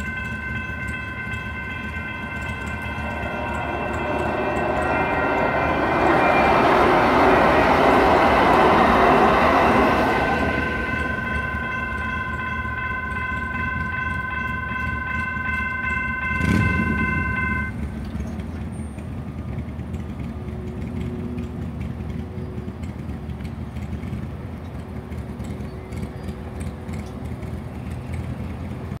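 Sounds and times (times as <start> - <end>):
low street traffic rumble: 0.0 - 29.0
railroad crossing bells ringing: 0.0 - 29.0.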